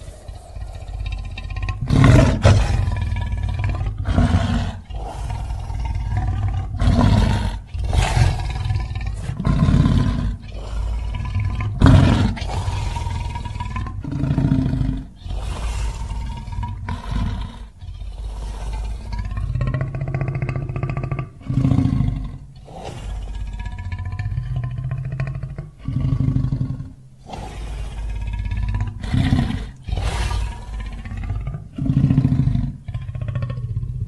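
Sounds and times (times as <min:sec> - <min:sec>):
creature roars: 0:00.0 - 0:33.8.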